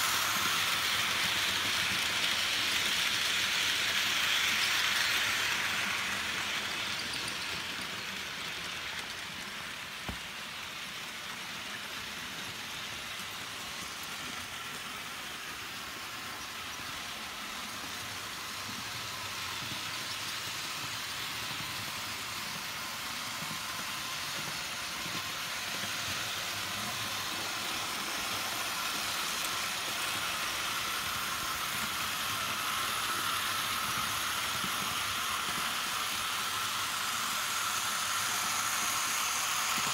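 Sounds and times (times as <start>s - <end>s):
model train wheels on rails: 0.0s - 39.9s.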